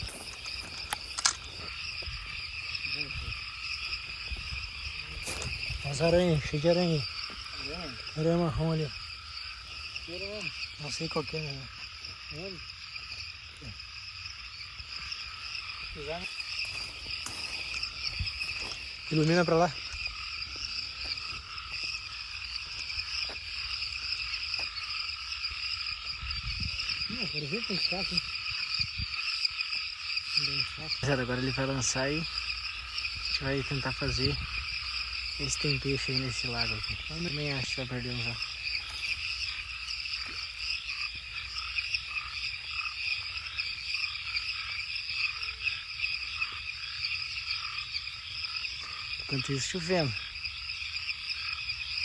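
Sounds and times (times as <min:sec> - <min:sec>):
crickets chirping: 0:00.0 - 0:52.0
frogs trilling: 0:00.0 - 0:52.0
low frog calls: 0:00.0 - 0:52.0.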